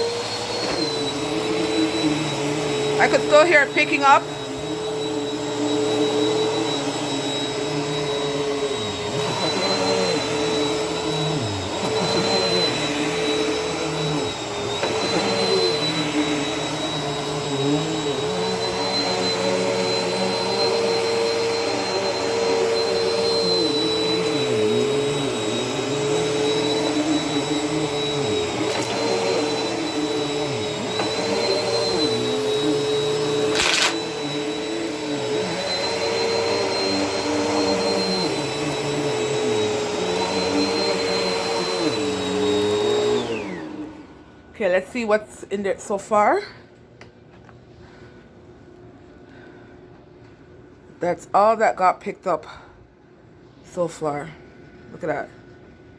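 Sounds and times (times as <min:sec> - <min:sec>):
vacuum cleaner running over carpet: 0:00.0 - 0:45.0.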